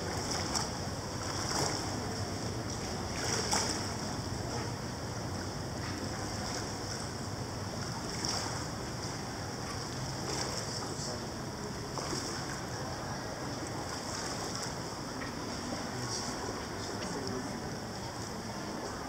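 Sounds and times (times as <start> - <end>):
faint splashes: 0.0 - 19.0
swimming pool water noise: 0.0 - 19.0.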